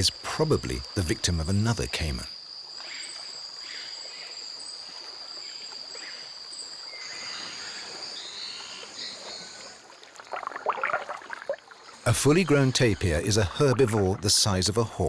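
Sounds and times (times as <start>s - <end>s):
higher insect trill: 0.0s - 10.8s, 11.7s - 15.0s
insects trilling: 0.0s - 15.0s.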